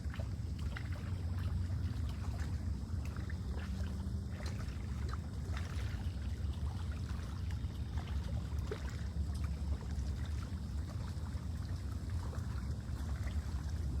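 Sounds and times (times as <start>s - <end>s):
faint splashes: 0.0s - 14.0s
small waves lapping: 0.0s - 14.0s
wind rumble on microphone: 0.0s - 14.0s.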